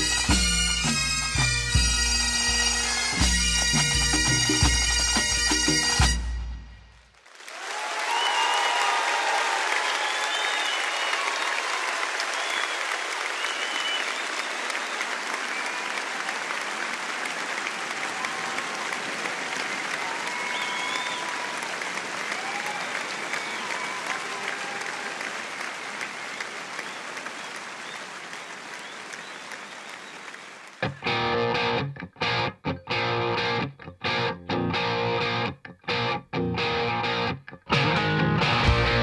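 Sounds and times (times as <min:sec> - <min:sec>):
crowd applauding: 0:00.0 - 0:05.8, 0:06.9 - 0:33.6, 0:36.6 - 0:39.0.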